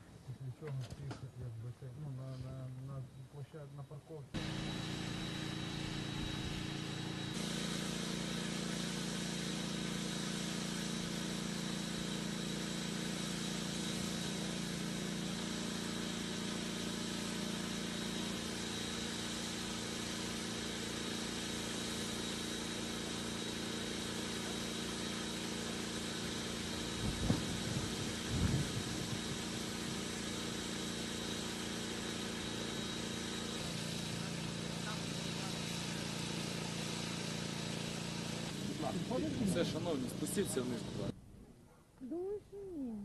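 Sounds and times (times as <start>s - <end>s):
engine idling hum: 0.0s - 41.6s.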